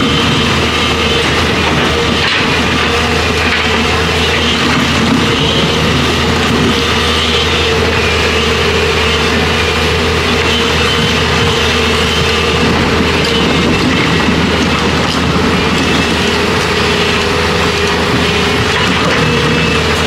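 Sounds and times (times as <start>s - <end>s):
constant whine: 0.0s - 20.0s
excavator diesel engine: 0.0s - 20.0s.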